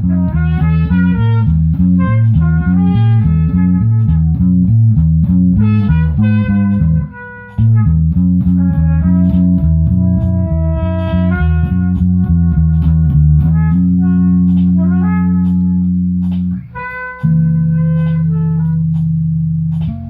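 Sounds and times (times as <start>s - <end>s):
rhythmic bass guitar line: 0.0s - 20.0s.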